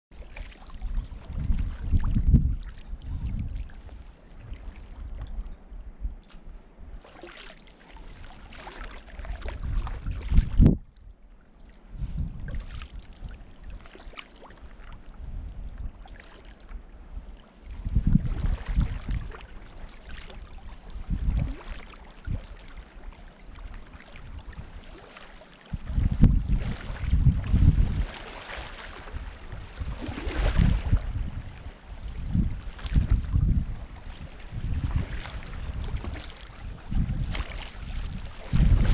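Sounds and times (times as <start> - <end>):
paddle strokes in water: 0.1 - 10.8, 11.4 - 38.9
water washing around kayak hull: 0.1 - 38.9.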